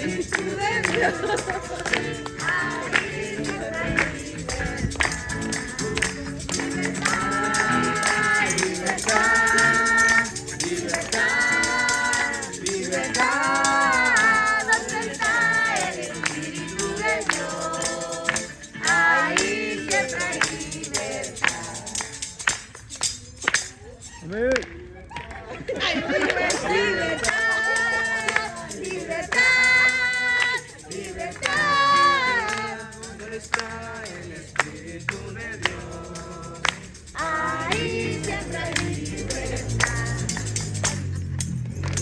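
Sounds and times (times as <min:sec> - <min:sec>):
group singing: 0:00.0 - 0:22.6, 0:25.8 - 0:41.2
hand percussion shaking: 0:00.0 - 0:24.4, 0:26.3 - 0:42.0.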